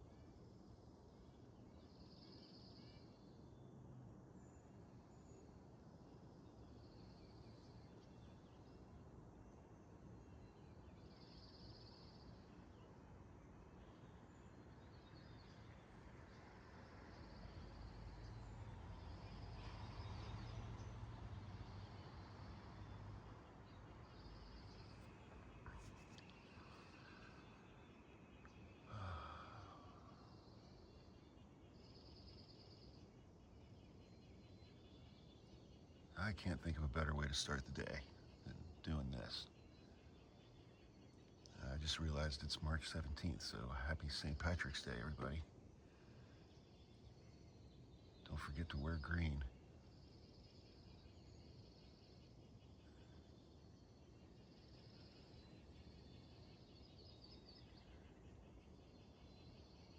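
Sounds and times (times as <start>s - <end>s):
faint outdoor ambience: 0.0s - 59.9s
soft bird chirps: 0.0s - 59.9s
songbird trills: 4.4s - 59.9s
steady low hum: 4.4s - 59.9s.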